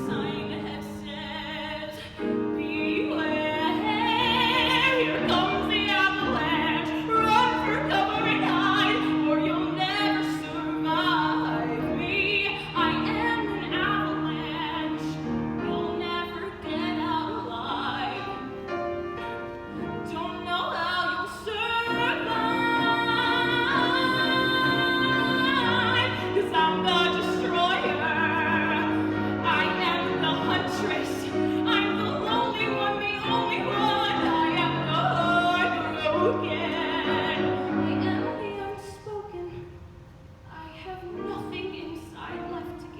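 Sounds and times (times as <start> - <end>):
woman singing a ballad: 0.0 - 18.9, 19.8 - 39.8, 40.5 - 42.9
piano accompaniment: 0.0 - 42.9.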